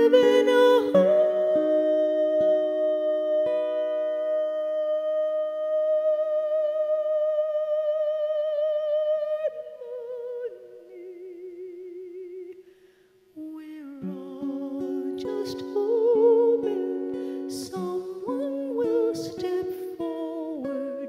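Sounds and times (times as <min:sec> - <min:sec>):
acoustic guitar: 0:00.0 - 0:21.0.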